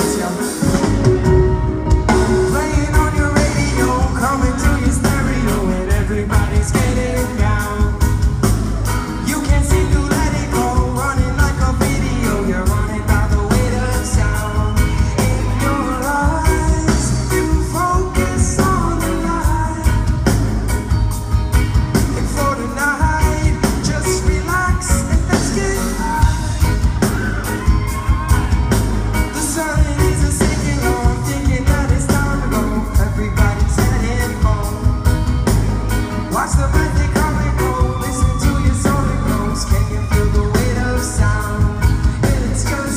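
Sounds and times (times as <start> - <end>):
person singing: 0.0 - 20.5, 21.9 - 42.9
live reggae band: 0.0 - 42.9.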